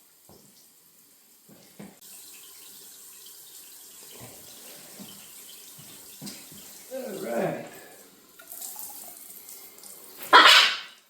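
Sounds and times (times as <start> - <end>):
shower water running: 0.0 - 11.0.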